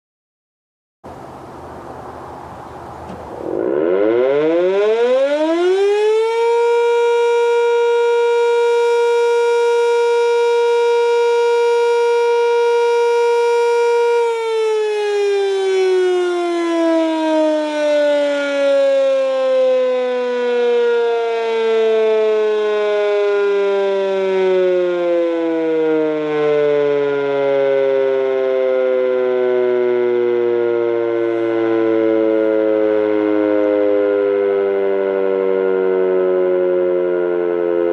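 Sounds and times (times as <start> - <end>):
civil defense siren: 1.8 - 37.9.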